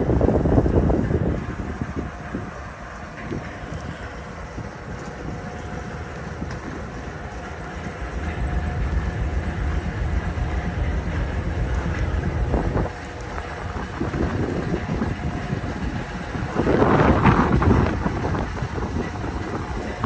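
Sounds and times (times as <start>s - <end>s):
diesel locomotive engine rumble: 0.0s - 20.0s
wind buffeting microphone: 0.0s - 20.0s.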